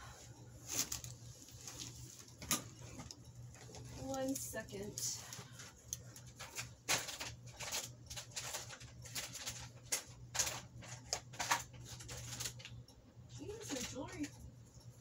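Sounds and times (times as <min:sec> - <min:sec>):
rustling while rummaging: 0:00.0 - 0:12.7, 0:13.4 - 0:14.3
low steady hum: 0:00.0 - 0:15.0.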